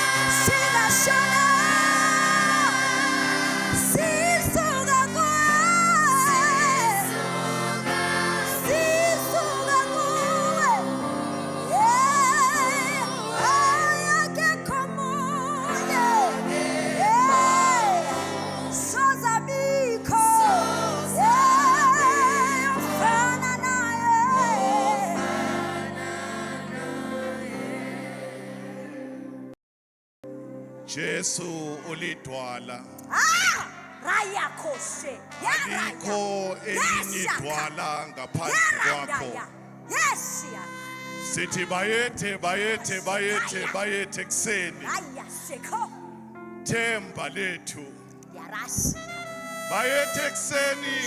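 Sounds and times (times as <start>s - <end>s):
gospel music with singing: 0.0s - 29.6s, 30.3s - 51.0s.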